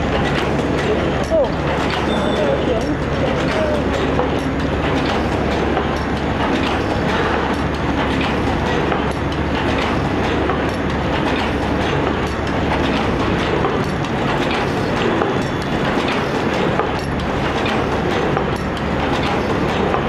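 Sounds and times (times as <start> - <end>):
machine clattering and clicking: 0.0 - 20.0.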